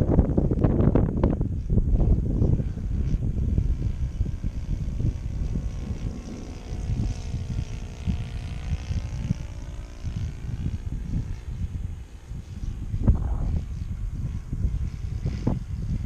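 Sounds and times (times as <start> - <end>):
distant model airplane engine: 0.0 - 16.0
wind rumble on microphone: 0.0 - 16.0.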